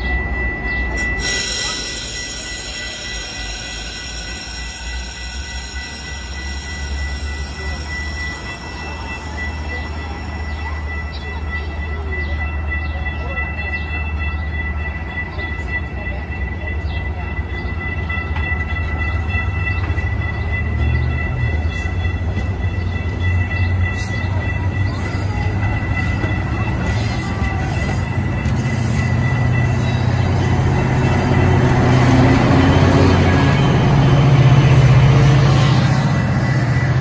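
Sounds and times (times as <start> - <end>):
diesel locomotive engine drone: 0.0 - 37.0
train wheels rumbling on rails: 0.0 - 37.0.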